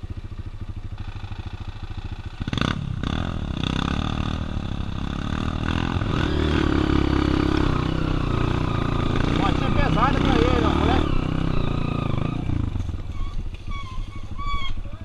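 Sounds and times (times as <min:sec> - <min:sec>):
dirt bike engine revving: 0:00.0 - 0:14.8.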